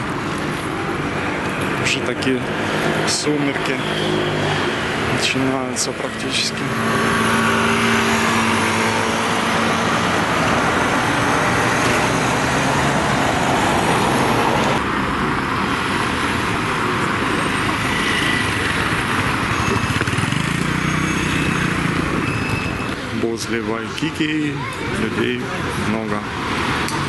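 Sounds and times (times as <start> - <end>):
cars passing: 0.0 - 27.0.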